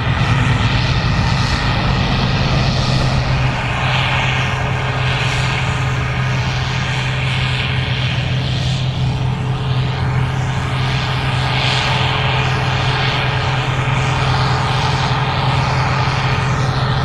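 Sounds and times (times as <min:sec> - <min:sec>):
combine harvester droning: 0:00.0 - 0:17.0.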